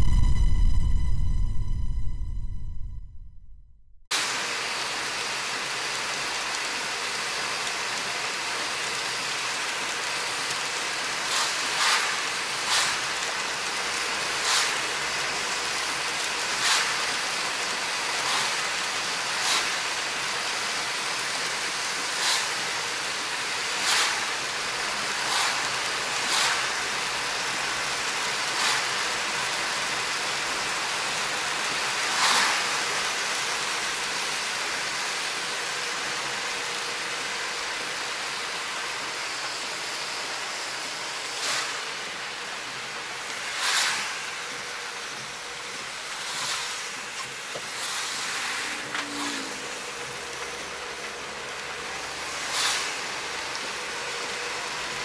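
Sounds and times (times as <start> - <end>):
heavy rain: 4.2 - 55.0
tyres on a wet road: 4.2 - 55.0.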